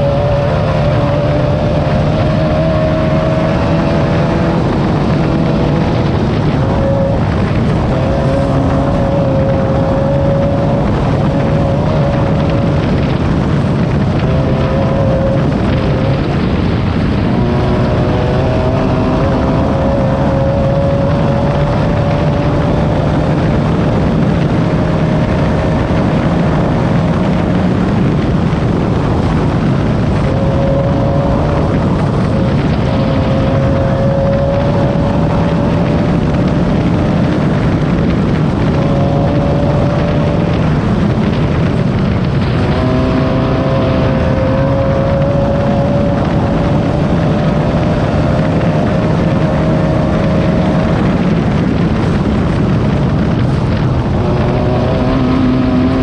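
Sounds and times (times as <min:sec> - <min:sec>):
race car engine wavering: 0:00.0 - 0:56.0.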